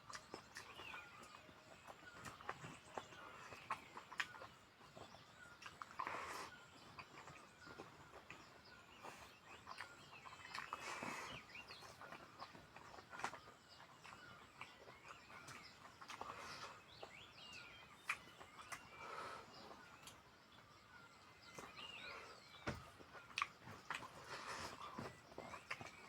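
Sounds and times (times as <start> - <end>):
faint birds chirping: 0.0 - 26.0.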